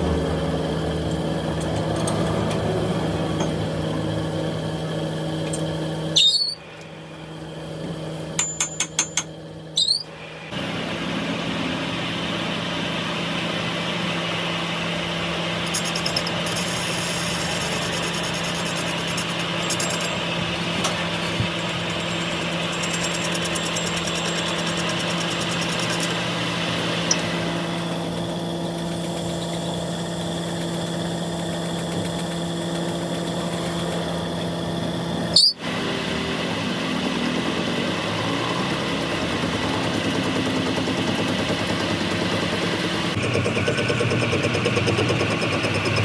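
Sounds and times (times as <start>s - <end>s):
engine humming steadily: 0.0s - 46.0s.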